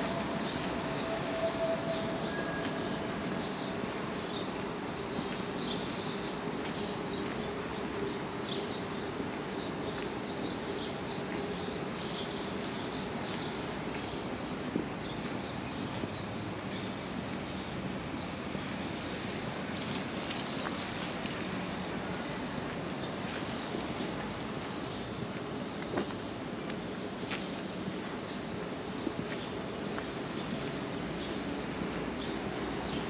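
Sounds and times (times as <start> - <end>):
city background hum: 0.0 - 33.0
distant traffic drone: 0.0 - 33.0.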